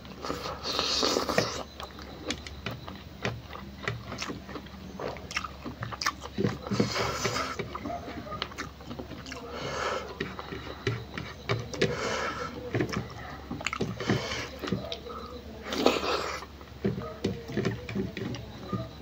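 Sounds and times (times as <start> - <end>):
fingers mixing sticky rice: 0.0 - 19.0
mouth eating sounds: 0.1 - 10.9, 11.8 - 16.5.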